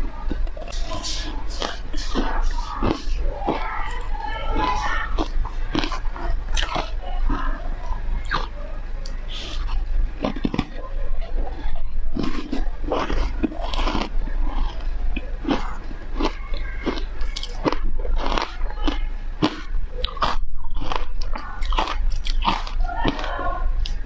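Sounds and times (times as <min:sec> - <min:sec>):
crunchy ice chewing: 0:00.2 - 0:07.6, 0:08.2 - 0:24.0.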